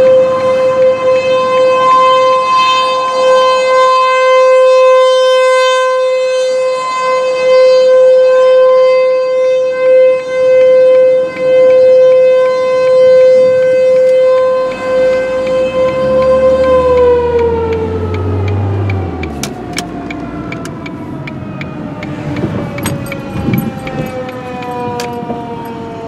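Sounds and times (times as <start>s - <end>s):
warning siren steady tone: 0.0s - 26.0s.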